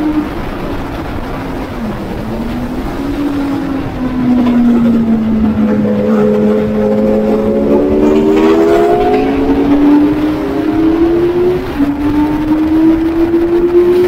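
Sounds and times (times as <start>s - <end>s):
racing motorcycle engine: 0.0s - 14.0s
wind rushing over microphone: 0.0s - 14.0s.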